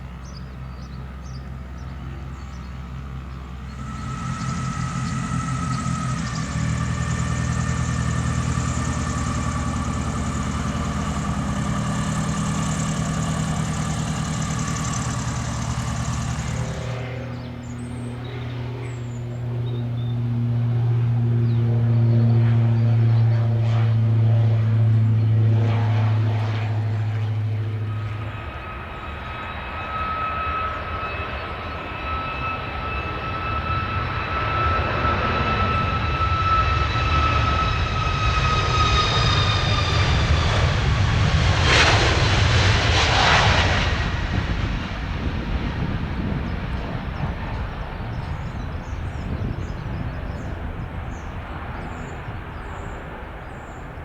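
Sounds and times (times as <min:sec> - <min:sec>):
steady low drone: 0:00.0 - 0:29.8, 0:31.2 - 0:54.0
aircraft passing rush: 0:00.0 - 0:54.0
jet aircraft whine: 0:00.0 - 0:54.0.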